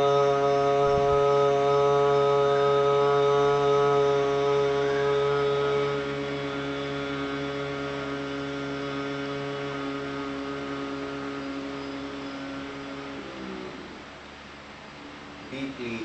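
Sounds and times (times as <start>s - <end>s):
man humming low note: 0.0s - 14.4s.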